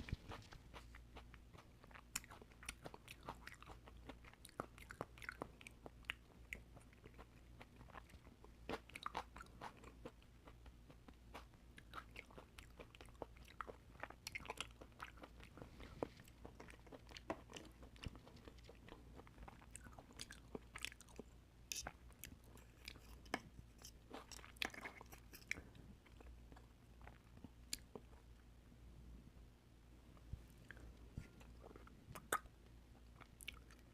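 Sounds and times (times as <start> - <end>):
person chewing oysters: 0.0 - 28.3, 30.6 - 33.9
faint low hum: 0.0 - 33.9.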